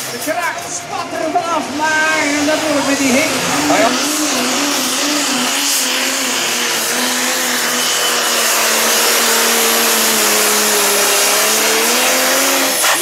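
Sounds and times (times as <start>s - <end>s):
diesel engine revving high: 0.0s - 13.0s.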